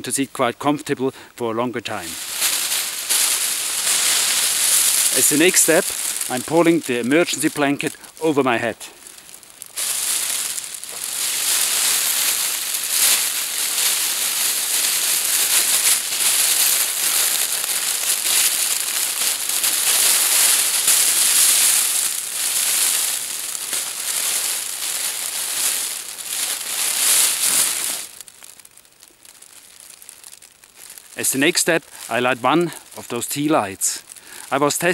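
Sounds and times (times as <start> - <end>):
foil blanket crinkling: 1.9 - 34.9.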